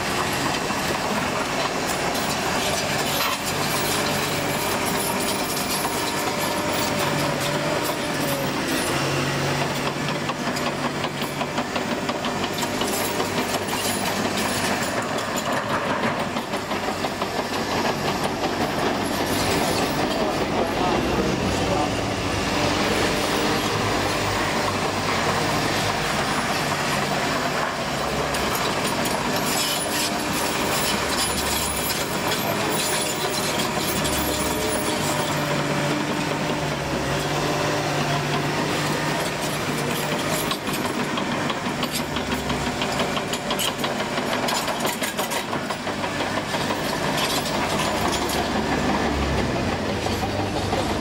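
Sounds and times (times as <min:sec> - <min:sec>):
diesel engine under load: 0:00.0 - 0:51.0
steel tracks clattering and squealing: 0:00.0 - 0:51.0.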